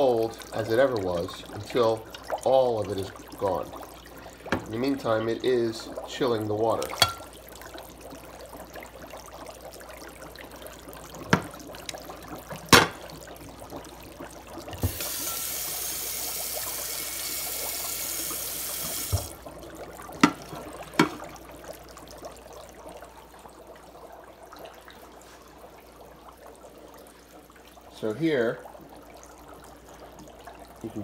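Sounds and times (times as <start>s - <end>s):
dry ice bubbling in water: 0.0s - 31.0s.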